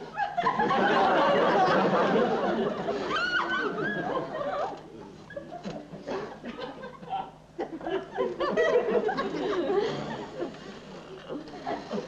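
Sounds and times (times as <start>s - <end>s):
audience laughing: 0.0s - 10.9s.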